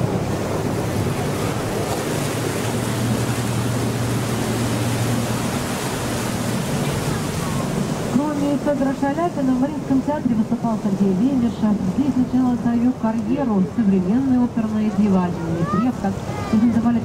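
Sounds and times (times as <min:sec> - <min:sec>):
boat engine hum: 0:00.0 - 0:17.0
rushing water: 0:00.0 - 0:17.0.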